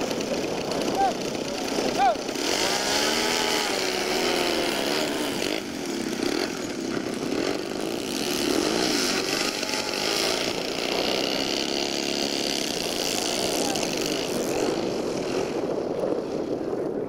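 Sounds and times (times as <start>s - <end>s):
model airplane engines buzzing: 0.0s - 17.0s.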